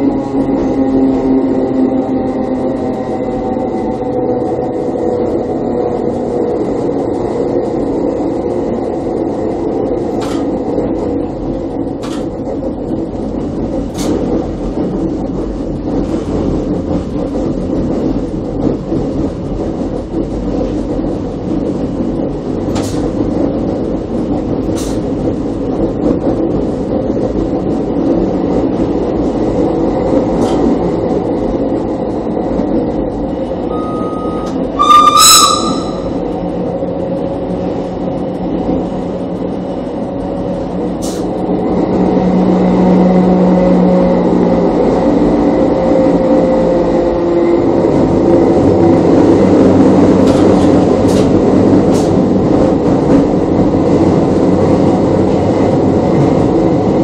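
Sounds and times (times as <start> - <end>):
rolling train wheels: 0.0 - 57.0.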